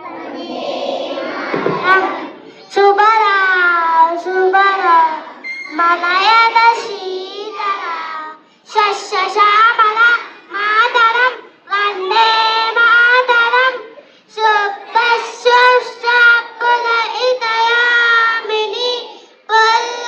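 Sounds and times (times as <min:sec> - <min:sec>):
young children singing: 0:00.0 - 0:20.0.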